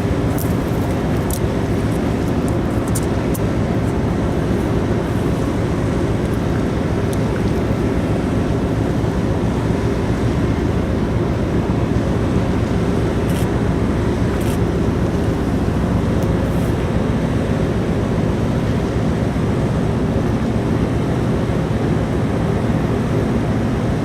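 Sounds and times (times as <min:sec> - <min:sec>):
faint steady hum: 0:00.0 - 0:24.0
ferry engine low rumble: 0:00.0 - 0:24.0.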